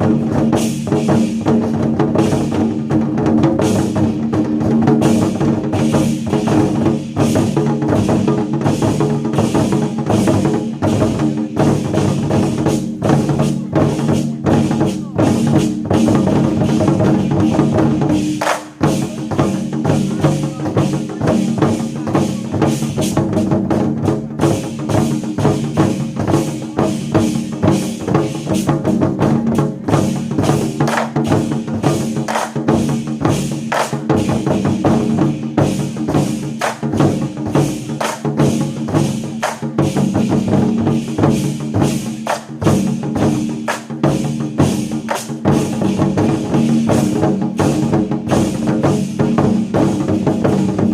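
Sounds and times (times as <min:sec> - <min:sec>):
war drums fast rhythm: 0:00.0 - 0:50.9.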